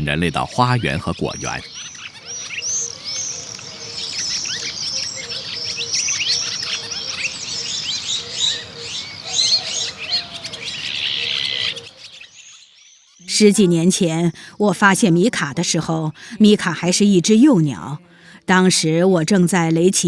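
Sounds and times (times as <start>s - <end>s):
magpies chattering: 0.0s - 20.0s.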